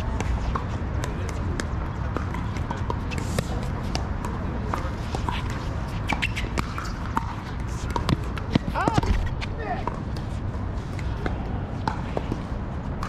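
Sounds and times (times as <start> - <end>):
ball bouncing on court: 0.0 - 13.0.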